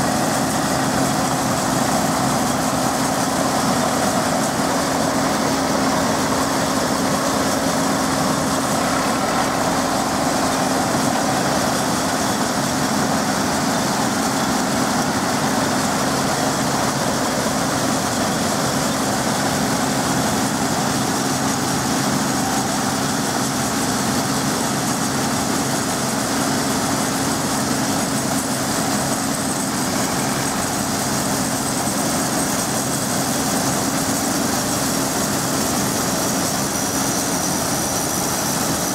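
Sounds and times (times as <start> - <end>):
diesel tractor running: 0.0 - 38.9.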